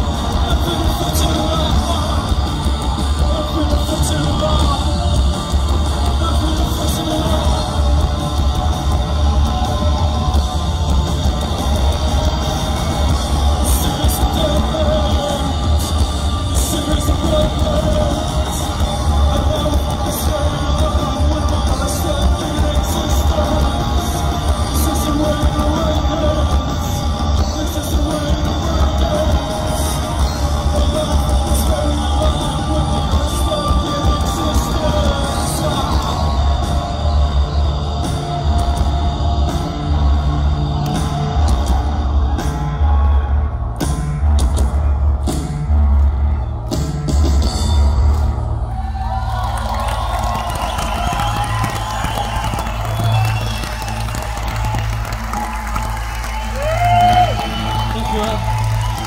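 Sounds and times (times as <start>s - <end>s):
live band playing loudly: 0.0s - 59.0s.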